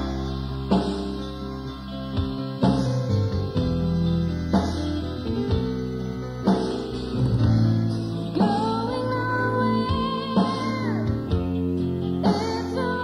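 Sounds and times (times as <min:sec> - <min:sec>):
bass: 0:00.0 - 0:13.0
keyboards: 0:00.0 - 0:13.0.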